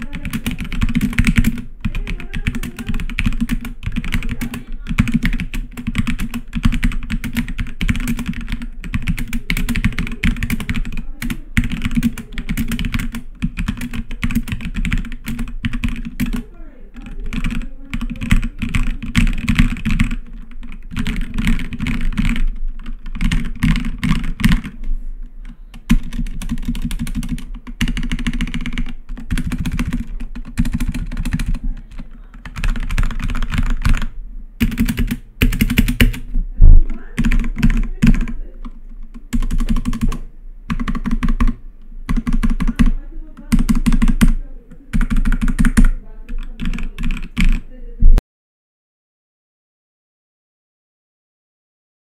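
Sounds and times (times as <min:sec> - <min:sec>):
mechanical keyboard typing: 0:00.0 - 0:24.8, 0:25.7 - 0:47.7.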